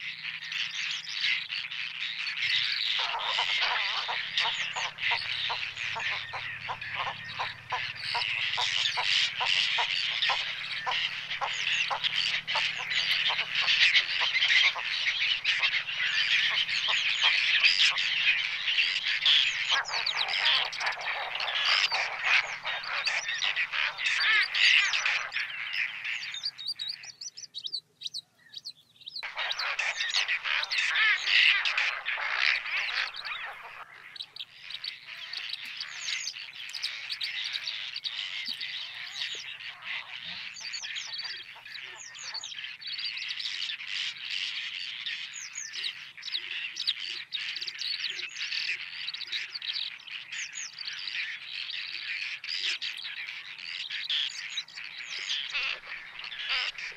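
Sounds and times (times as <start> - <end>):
flock of waterbirds calling: 0.0 - 56.9.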